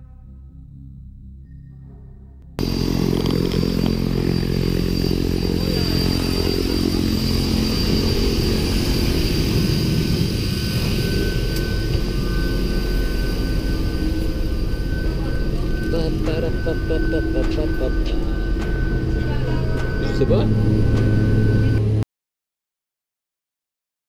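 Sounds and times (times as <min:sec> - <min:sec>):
lower whining tone: 0:00.0 - 0:22.0
propeller aircraft engines humming: 0:02.6 - 0:22.0.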